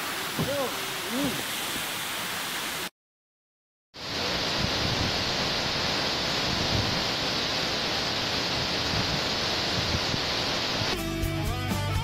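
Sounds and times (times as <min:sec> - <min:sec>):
waterfall rushing: 0:00.0 - 0:02.9, 0:04.0 - 0:12.0.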